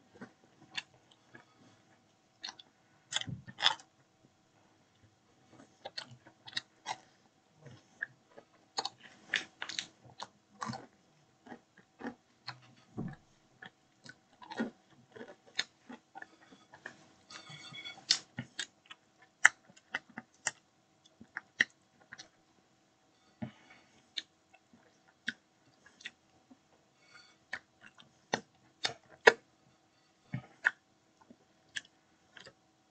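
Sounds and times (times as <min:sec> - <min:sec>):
person chewing and crunching food: 0:00.0 - 0:03.9, 0:05.4 - 0:22.5, 0:23.2 - 0:32.6
faint steady hum: 0:00.0 - 0:32.9.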